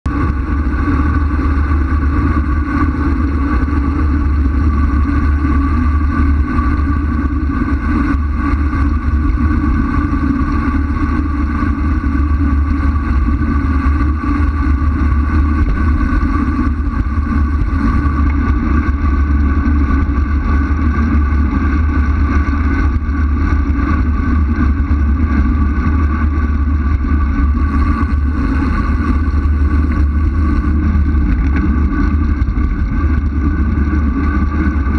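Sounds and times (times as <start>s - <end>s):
even hum: 0.0s - 34.9s
low rumble: 0.0s - 34.9s
wind buffeting microphone: 0.1s - 34.9s.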